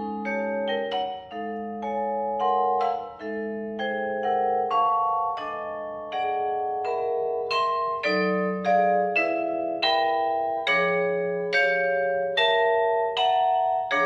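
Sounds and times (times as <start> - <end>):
vibraphone played with mallets: 0.0 - 14.0.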